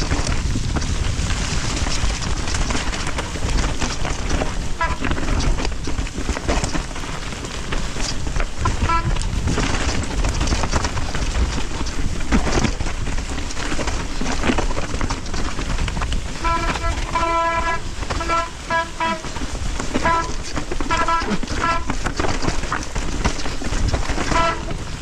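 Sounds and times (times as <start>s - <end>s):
bike tyres rushing with rattling: 0.0s - 25.0s.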